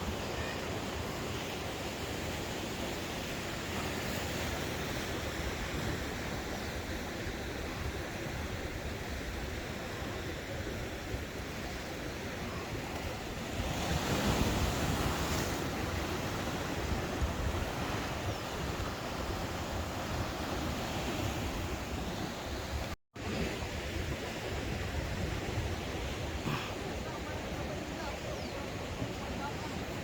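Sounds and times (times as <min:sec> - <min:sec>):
wind on microphone: 0:03.7 - 0:30.0.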